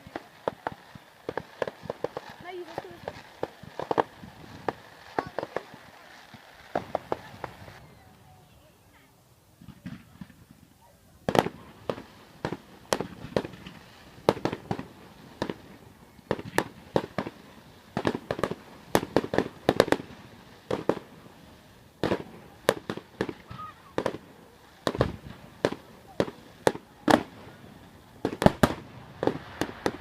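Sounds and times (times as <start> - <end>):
fireworks banging: 0.0 - 7.9, 9.6 - 30.0.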